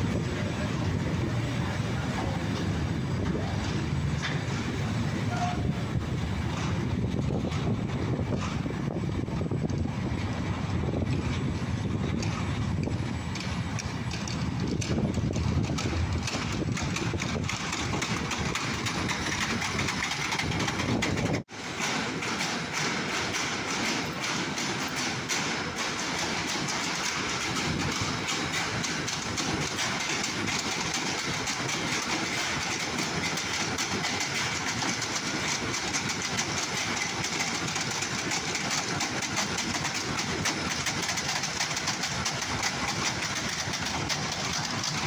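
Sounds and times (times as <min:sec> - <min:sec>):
train wheels rumbling on rails: 0:00.0 - 0:45.0
wheels clicking over rail joints: 0:00.0 - 0:45.0.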